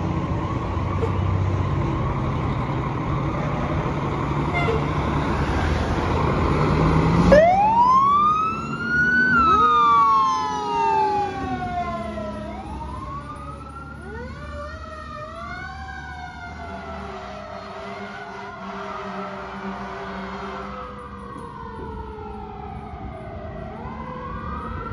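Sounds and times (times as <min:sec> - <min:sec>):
wailing siren: 0:00.0 - 0:03.8, 0:04.5 - 0:24.9
fire engine pulling away: 0:00.0 - 0:24.9.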